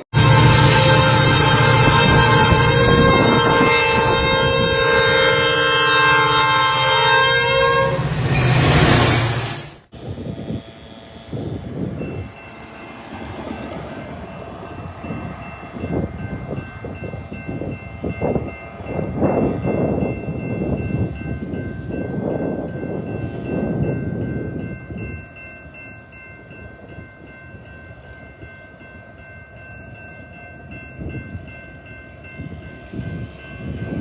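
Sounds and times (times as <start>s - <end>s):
train rumble with wheel clatter: 0.2s - 34.0s.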